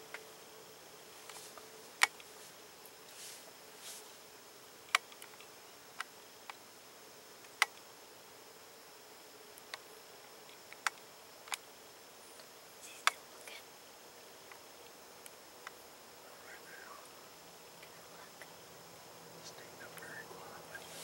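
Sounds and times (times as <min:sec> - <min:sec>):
faint drone of insects: 0:00.0 - 0:21.0.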